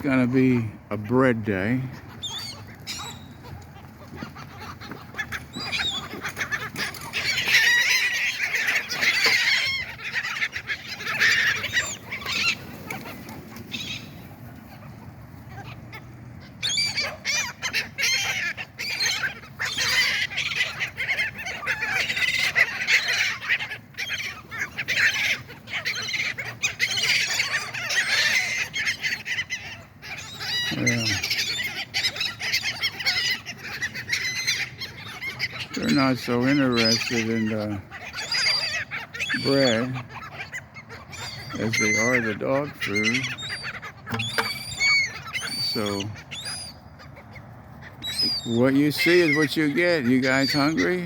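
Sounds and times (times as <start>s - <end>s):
seagulls squawking: 0.0s - 51.0s.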